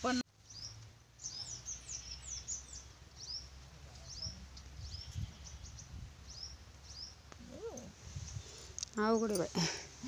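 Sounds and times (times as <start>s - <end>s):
small bird chirping: 0.4s - 9.5s.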